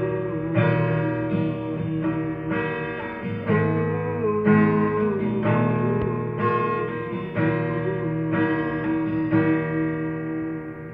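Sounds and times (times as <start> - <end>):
acoustic guitar strumming chords: 0.0 - 10.9.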